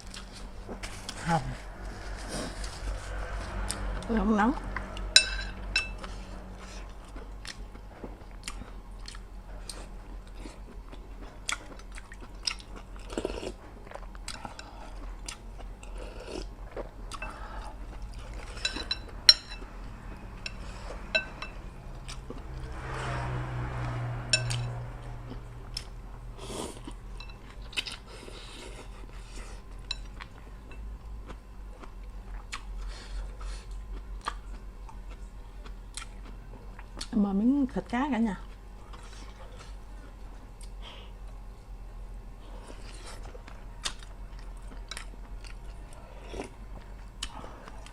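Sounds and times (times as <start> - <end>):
chewing noodle soup: 0.0 - 37.3, 42.4 - 47.9.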